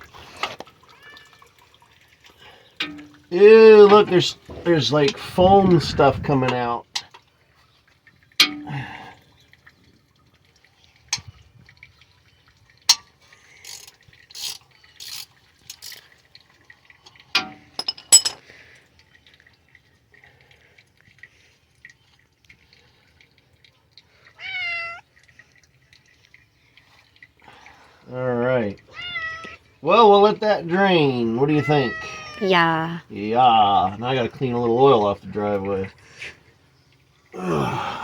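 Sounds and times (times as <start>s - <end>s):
fluid dripping into pan: 0.0s - 32.4s, 34.0s - 38.0s.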